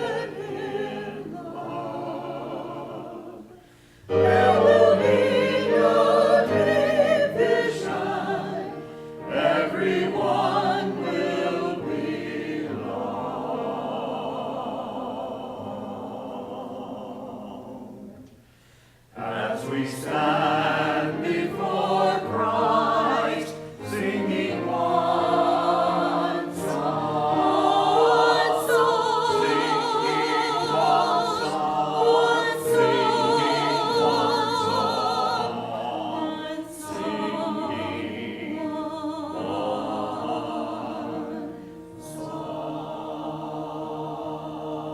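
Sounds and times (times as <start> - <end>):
church choir singing: 0.0 - 44.9.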